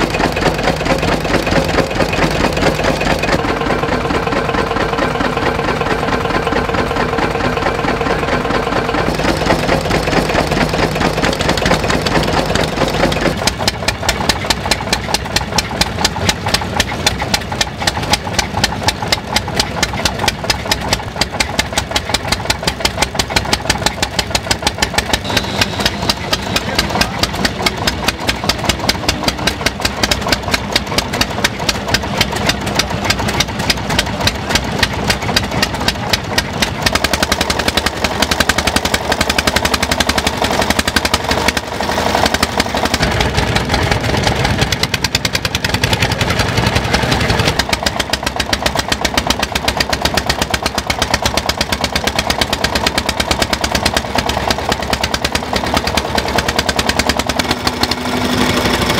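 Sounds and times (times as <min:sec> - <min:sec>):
small stationary engine running: 0:00.0 - 0:58.9.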